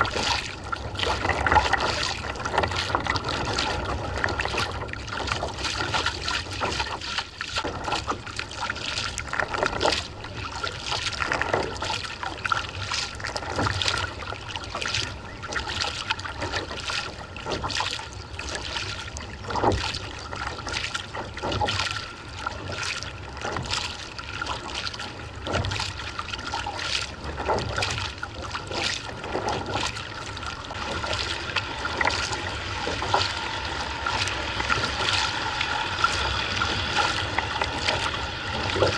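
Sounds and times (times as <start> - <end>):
paddle splashing into water: 0.0 - 38.9
water trickling along hull: 0.0 - 38.9.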